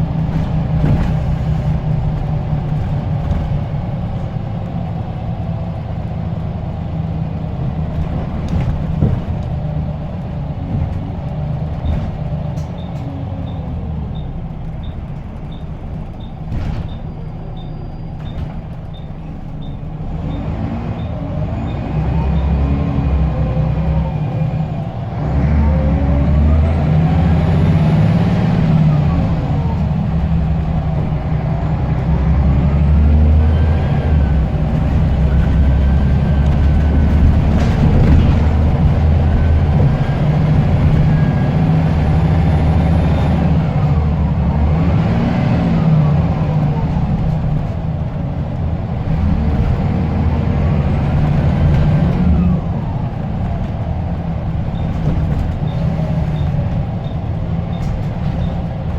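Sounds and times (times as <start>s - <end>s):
heavy low rumble: 0.0s - 20.3s, 23.0s - 58.9s
bus diesel engine changing gear: 0.0s - 58.9s.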